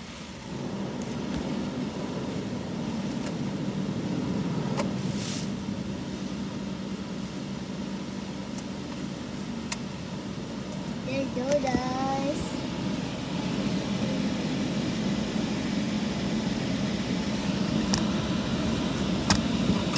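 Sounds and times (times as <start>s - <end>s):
car wash machinery rumbling: 0.0s - 19.9s.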